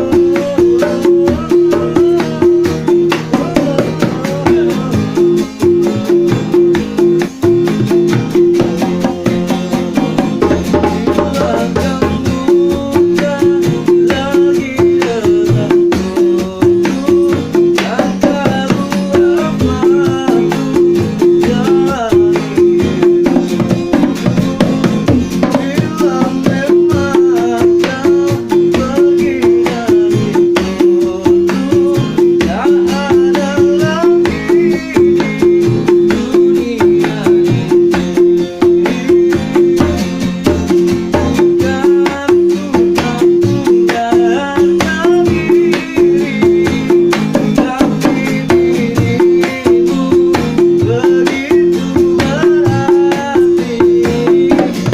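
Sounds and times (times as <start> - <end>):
hand drums beating: 0.0 - 54.9
plucked strings: 0.0 - 54.9
wavering melody line: 0.0 - 54.9.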